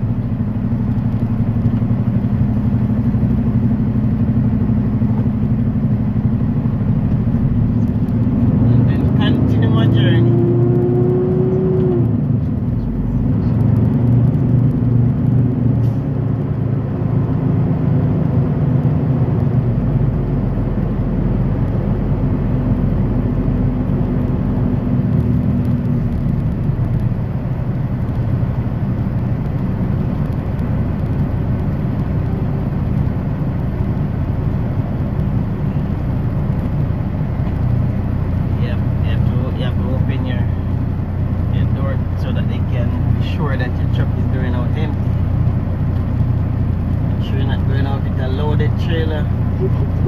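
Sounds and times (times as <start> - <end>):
road noise: 0.0 - 50.0
truck diesel engine drone: 0.0 - 50.0.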